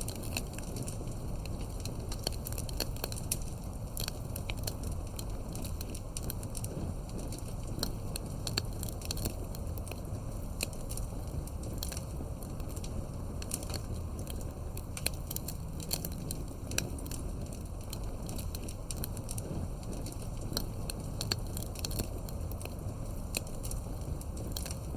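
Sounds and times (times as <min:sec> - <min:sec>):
burning wood crackling: 0:00.0 - 0:24.9
flames rumbling: 0:00.0 - 0:24.9.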